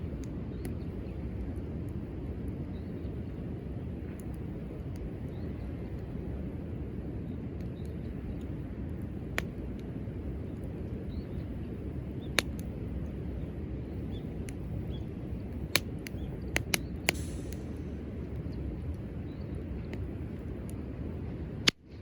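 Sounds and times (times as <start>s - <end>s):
campfire burning: 0.0s - 22.0s
fire crackles and pops: 0.0s - 22.0s.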